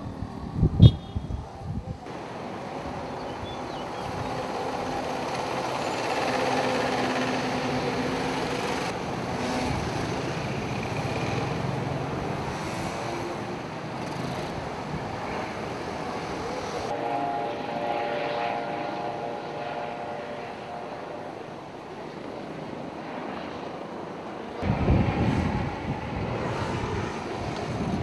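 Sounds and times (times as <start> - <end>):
car and motorcycle engines humming: 0.0 - 22.3, 24.6 - 28.0.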